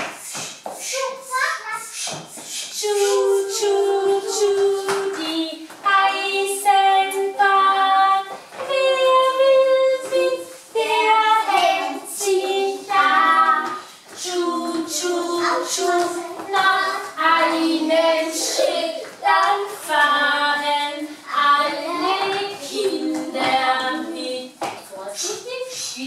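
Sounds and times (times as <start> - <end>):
children singing: 2.0 - 24.6.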